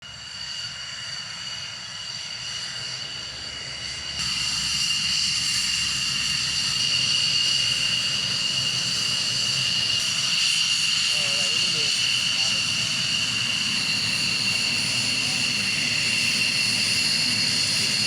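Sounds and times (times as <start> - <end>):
jet engine whining: 0.0 - 18.0.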